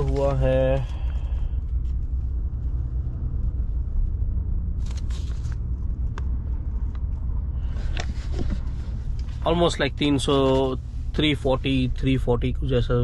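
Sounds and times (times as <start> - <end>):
car rumble inside cabin: 0.0 - 13.0.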